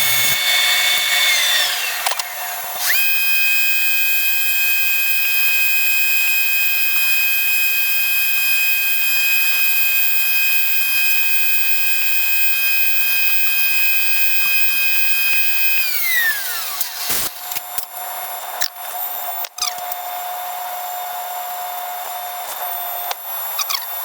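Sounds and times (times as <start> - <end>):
power tool whining: 0.0 - 24.0.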